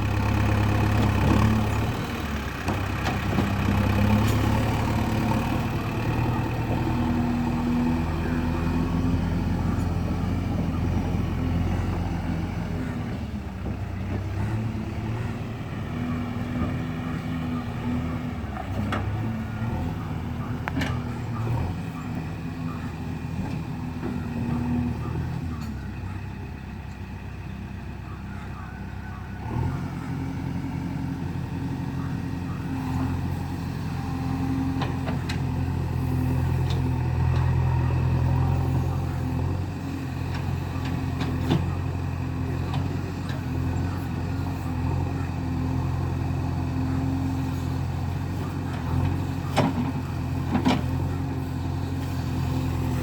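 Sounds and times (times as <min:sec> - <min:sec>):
diesel engine under load: 0:00.0 - 0:53.0.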